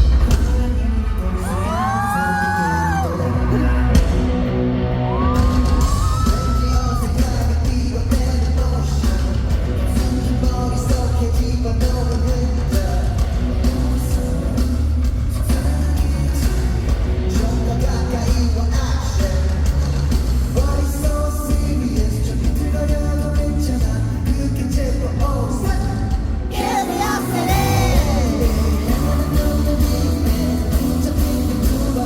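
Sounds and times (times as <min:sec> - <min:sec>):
man singing: 0:00.0 - 0:04.4, 0:05.1 - 0:32.0
pop song through speakers: 0:00.0 - 0:32.0.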